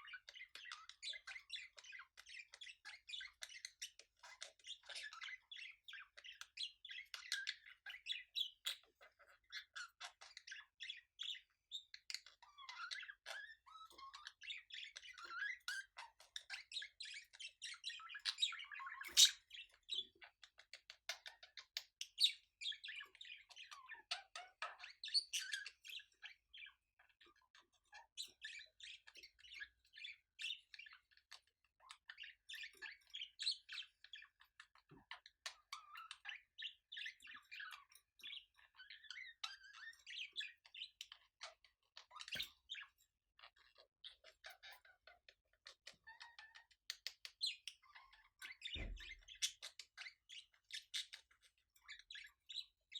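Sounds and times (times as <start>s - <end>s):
budgerigars chattering and warbling: 0.0s - 52.9s.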